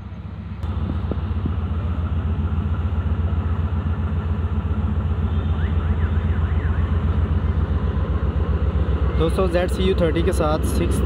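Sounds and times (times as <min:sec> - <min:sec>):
diesel locomotive engine throbbing: 0:00.0 - 0:11.0.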